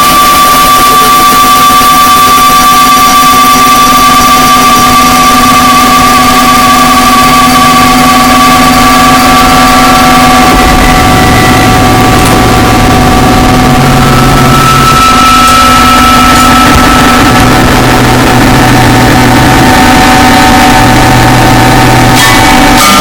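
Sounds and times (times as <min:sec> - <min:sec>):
droning tones: 0:00.0 - 0:23.0
harsh distorted noise music: 0:00.0 - 0:23.0.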